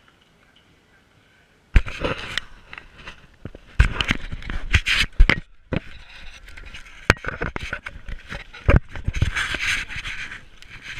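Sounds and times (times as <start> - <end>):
scraping rustle: 1.8 - 10.9.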